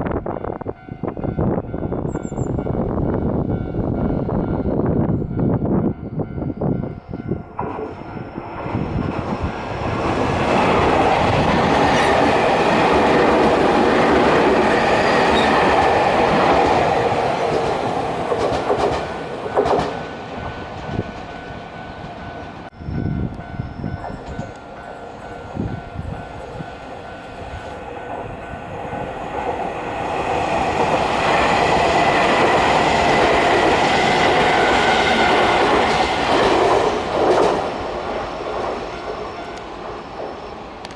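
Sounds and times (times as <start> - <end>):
electric trains passing: 0.0 - 40.9
wheels clacking on rails: 7.5 - 40.9.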